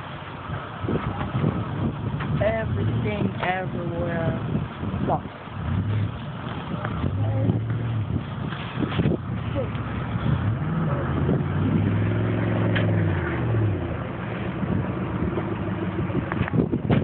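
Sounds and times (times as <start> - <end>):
street noise: 0.0 - 17.0
car engine revving: 1.0 - 17.0.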